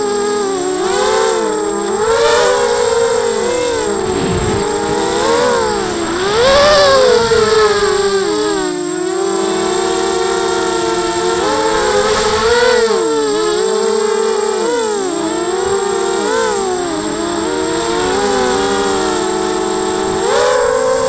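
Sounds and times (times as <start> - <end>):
quadcopter propellers whining: 0.0 - 21.0.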